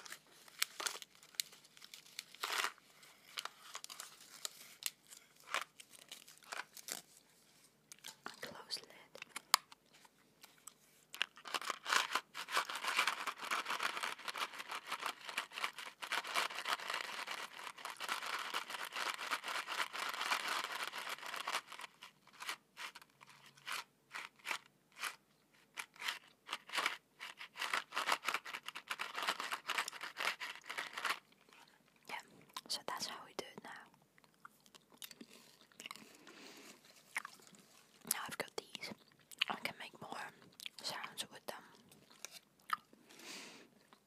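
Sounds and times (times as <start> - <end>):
gum packet crinkling: 0.0 - 7.3, 7.9 - 32.0, 33.7 - 43.0.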